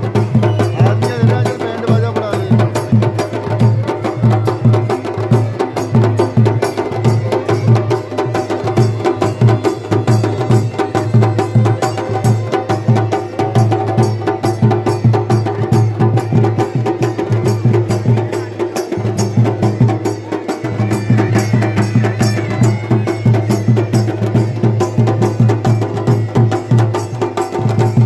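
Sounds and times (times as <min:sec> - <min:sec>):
fast dense drumming: 0:00.0 - 0:28.0.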